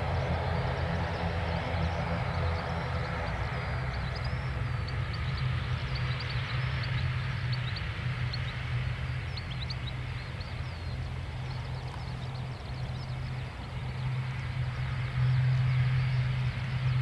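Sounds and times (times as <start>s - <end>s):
airliner engines humming: 0.0s - 17.0s
small birds chirping: 0.0s - 17.0s.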